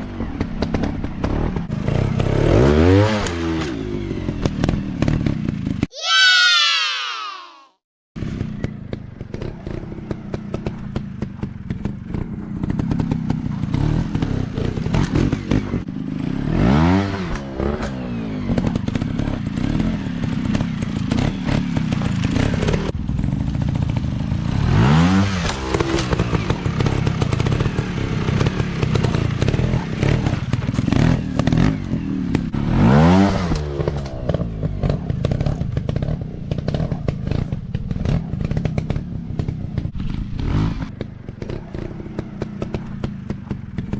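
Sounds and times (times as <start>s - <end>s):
dirt bike engines revving: 8.2s - 43.9s.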